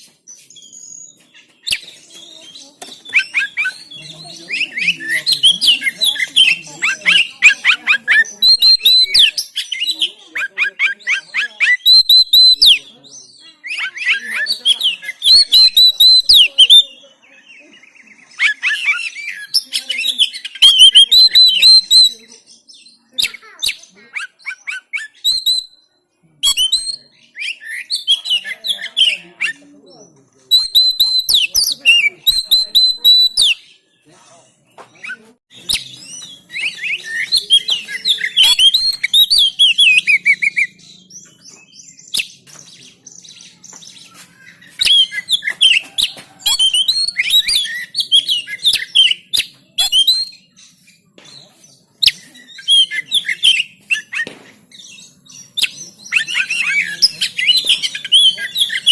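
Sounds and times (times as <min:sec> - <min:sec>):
bird singing chirps and whistles: 0:00.3 - 0:29.6, 0:30.4 - 0:33.8, 0:34.9 - 0:51.4, 0:52.0 - 0:58.9.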